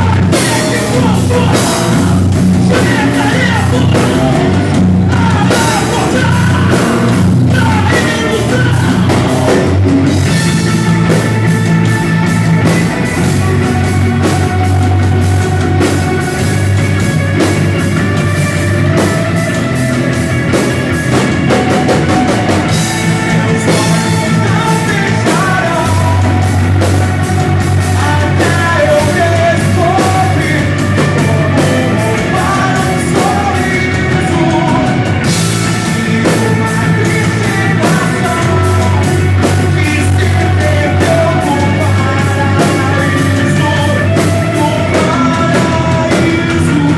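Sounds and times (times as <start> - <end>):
bass: 0.0 - 46.9
drums: 0.0 - 46.9
loud rock song: 0.0 - 46.9
person singing: 0.0 - 46.9.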